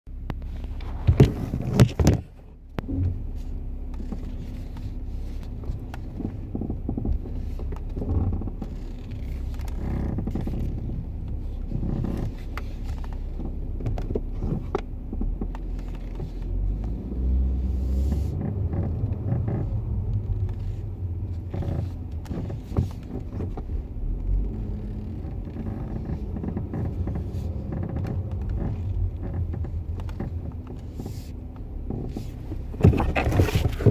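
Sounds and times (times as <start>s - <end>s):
low rumble of rolling car: 0.0s - 33.9s
muffled creaking from wheel arch: 0.3s - 33.9s.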